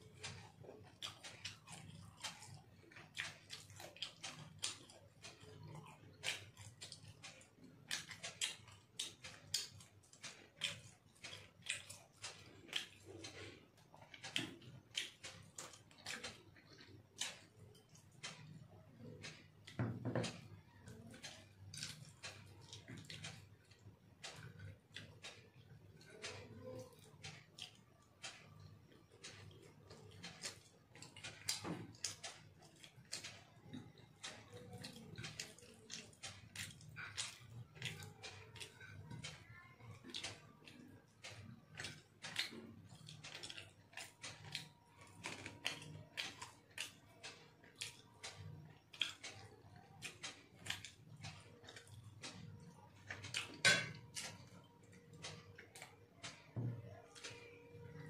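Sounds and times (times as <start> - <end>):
chewing and mouth smacks: 0.2 - 18.4, 27.0 - 39.3, 40.0 - 56.5.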